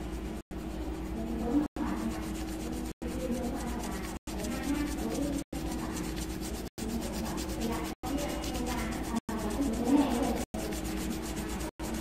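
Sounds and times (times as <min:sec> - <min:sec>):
pencil shading on paper: 0:00.0 - 0:12.0.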